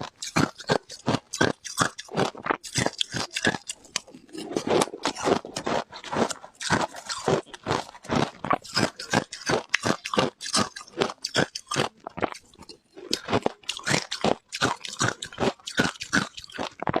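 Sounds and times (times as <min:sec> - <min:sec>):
person chewing ice crunches: 0:00.0 - 0:17.0.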